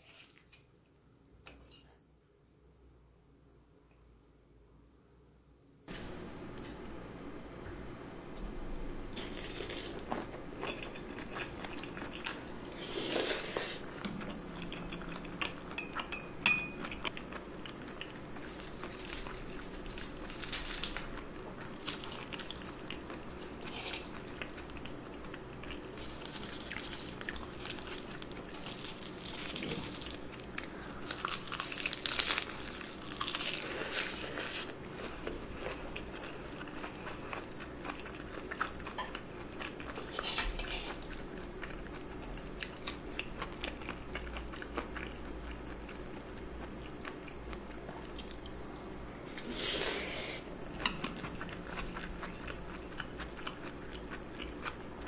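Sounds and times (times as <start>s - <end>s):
chewing and wet mouth sounds: 9.0s - 49.0s, 50.7s - 55.0s.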